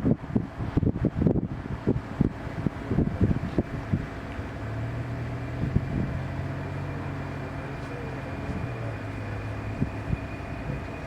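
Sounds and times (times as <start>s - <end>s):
distant jet engines: 0.0s - 11.0s.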